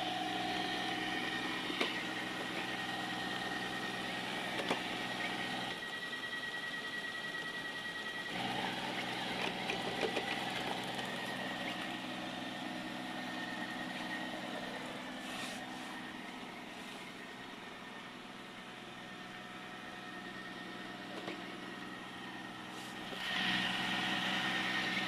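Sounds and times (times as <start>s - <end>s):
robot vacuum motor hum: 0.0s - 25.0s.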